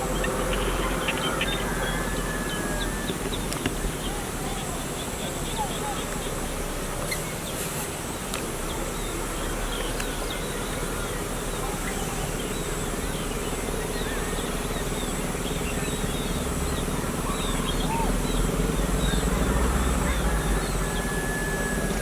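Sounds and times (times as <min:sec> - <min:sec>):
many birds chirping: 0:00.0 - 0:22.0.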